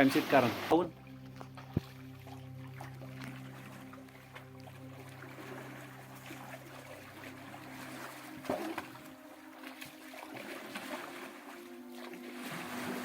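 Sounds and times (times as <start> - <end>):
water trickling and splashing: 0.0 - 13.0
low hum: 0.5 - 13.0.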